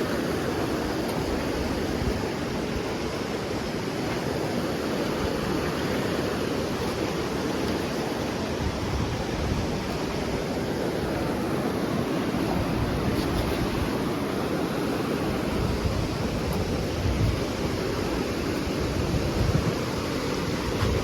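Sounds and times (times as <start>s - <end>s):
waves washing on shore: 0.0s - 21.0s
wind rumbling on microphone: 0.0s - 21.0s.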